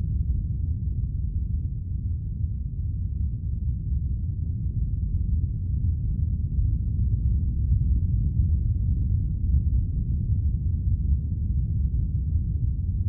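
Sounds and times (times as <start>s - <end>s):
deep earthquake rumble: 0.0s - 13.0s.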